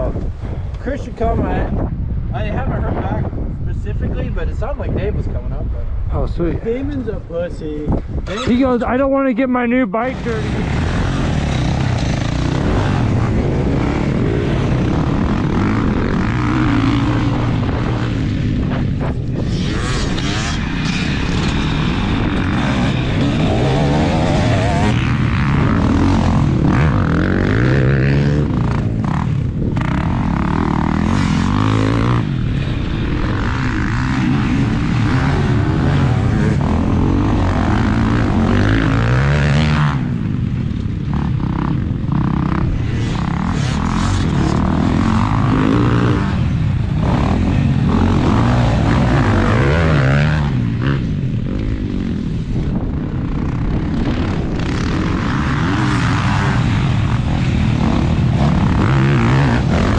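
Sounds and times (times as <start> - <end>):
wind rumble on microphone: 0.0 - 59.9
dirt bike engine revving: 10.0 - 59.9.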